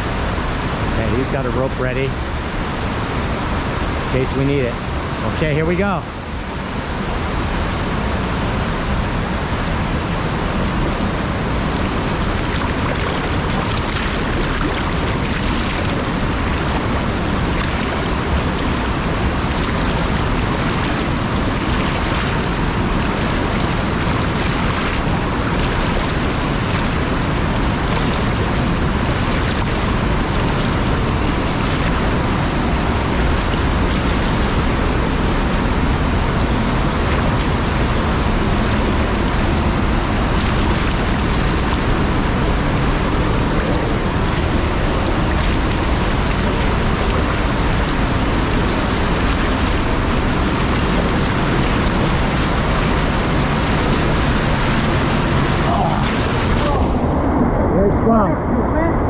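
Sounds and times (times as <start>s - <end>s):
river water rushing: 0.0s - 57.8s.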